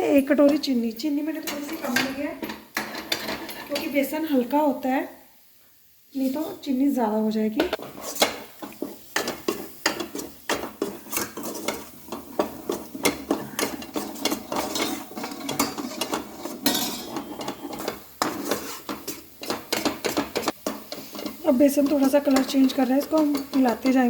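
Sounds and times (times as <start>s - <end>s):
spatula scraping a pan: 0.4s - 4.0s, 7.6s - 24.0s.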